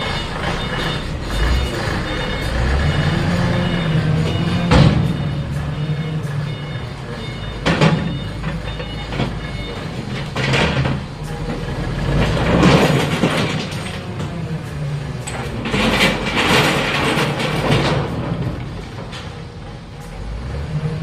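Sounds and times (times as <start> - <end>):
scrap iron clattering: 0.0 - 19.6
diesel engine running: 0.0 - 21.0.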